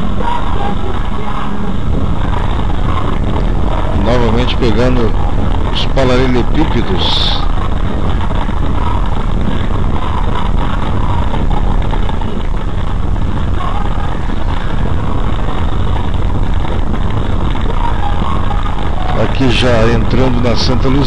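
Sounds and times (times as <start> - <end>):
tyres rumbling on cobblestones: 0.0 - 21.0.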